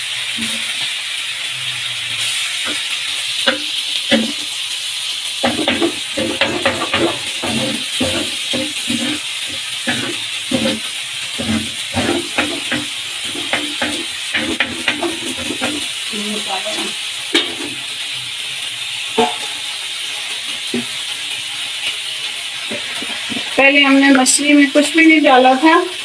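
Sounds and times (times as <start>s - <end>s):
food sizzling on a pan: 0.0s - 26.0s
spatula scraping a pan: 0.3s - 1.0s, 2.1s - 4.6s, 5.4s - 18.2s, 19.0s - 24.2s.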